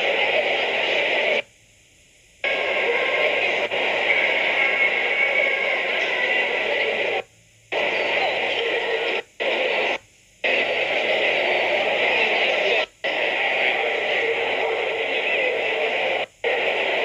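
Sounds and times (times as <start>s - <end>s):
steady hiss from video playback: 0.0s - 17.0s.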